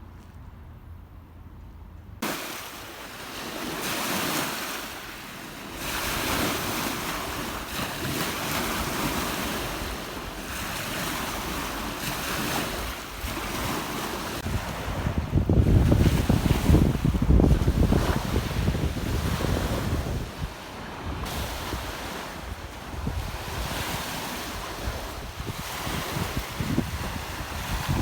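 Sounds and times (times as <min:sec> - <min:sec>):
wind: 0:00.0 - 0:28.0
waves washing on shore: 0:02.2 - 0:28.0.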